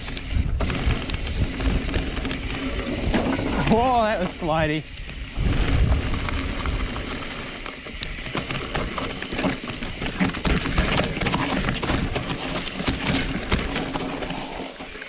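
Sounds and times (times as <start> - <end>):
bike clicks and rattles: 0.0 - 15.0
bike tyres on dirt: 0.0 - 15.0.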